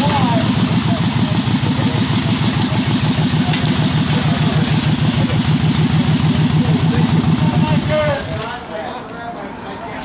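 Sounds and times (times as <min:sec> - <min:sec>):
motorcycle engine idling: 0:00.0 - 0:08.7.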